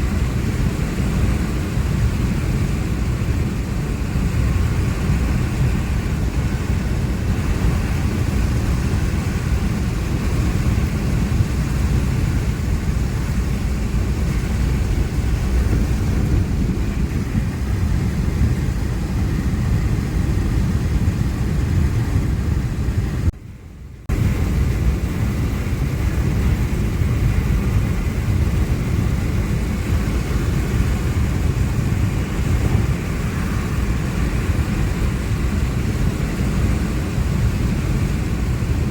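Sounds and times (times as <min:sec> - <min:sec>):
road and wind noise: 0:00.0 - 0:38.9.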